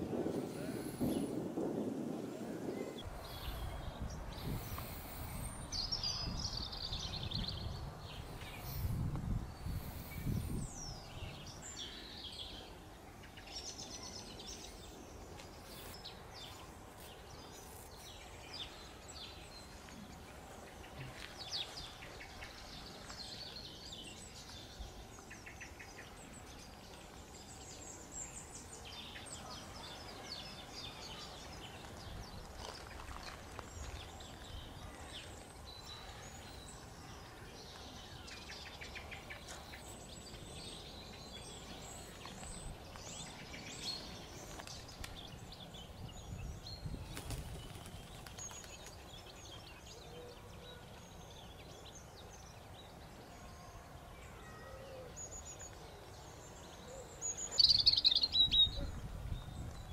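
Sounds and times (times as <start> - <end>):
wild birds chirping and singing: 0.0 - 59.9.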